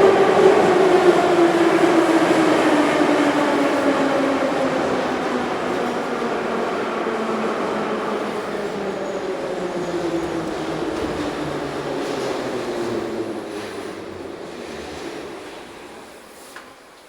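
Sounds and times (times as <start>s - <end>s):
subway train rolling and braking: 0.0s - 17.0s.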